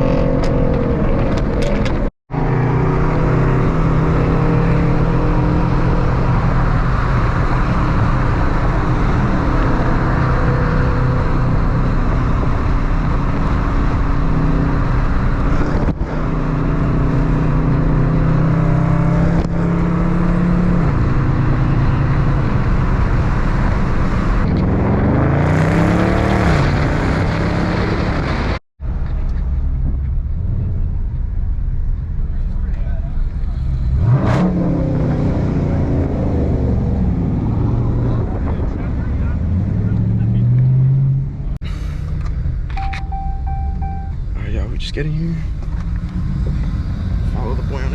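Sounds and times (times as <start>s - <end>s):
car engine hum: 0.0s - 47.9s
road and wind noise: 0.0s - 47.9s.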